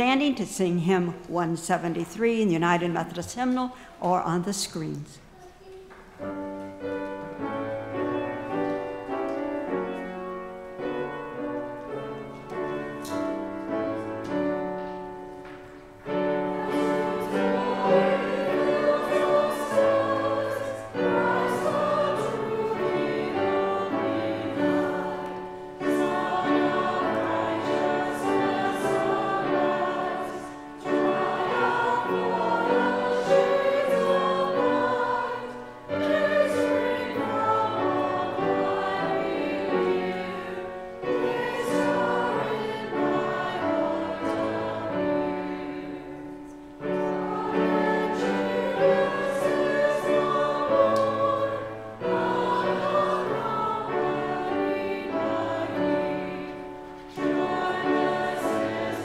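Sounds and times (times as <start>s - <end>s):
instrumental accompaniment: 4.2s - 59.0s
congregation singing a hymn: 6.2s - 59.0s.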